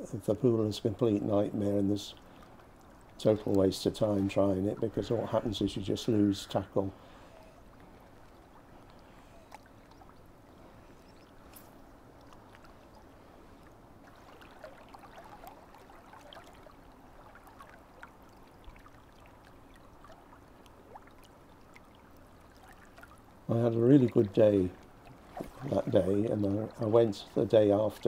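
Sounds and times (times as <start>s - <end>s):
river water flowing: 0.0s - 28.0s
small splashes: 2.0s - 28.0s.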